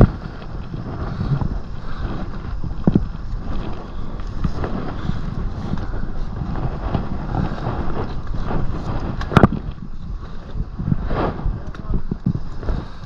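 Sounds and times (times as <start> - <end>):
climbing gear knocking and rustling: 0.0 - 13.0
wind rumbling on microphone: 0.0 - 13.0.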